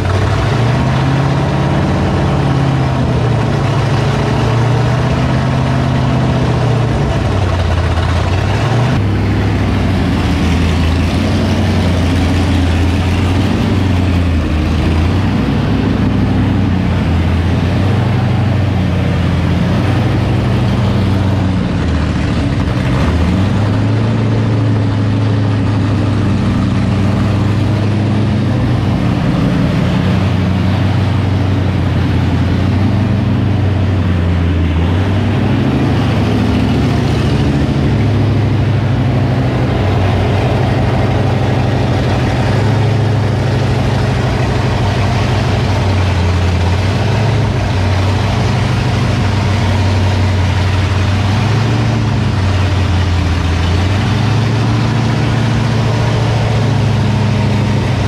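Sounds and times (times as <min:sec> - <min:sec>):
lumpy engine idling: 0:00.0 - 0:58.0.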